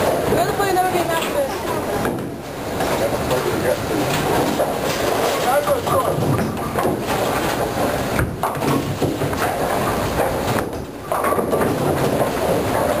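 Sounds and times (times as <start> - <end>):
bowling ball rolling on wooden lane: 0.0 - 13.0
rumble of bowling machinery: 0.0 - 13.0.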